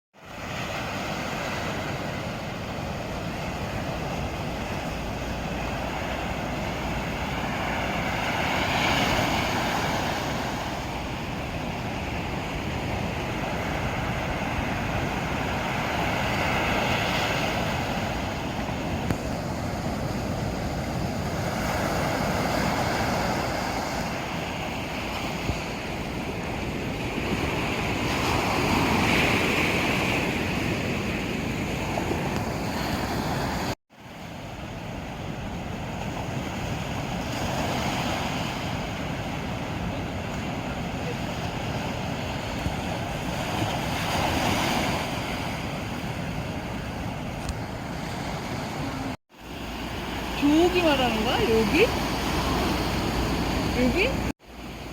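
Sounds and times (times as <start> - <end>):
sea waves breaking on shore: 0.2 - 54.9.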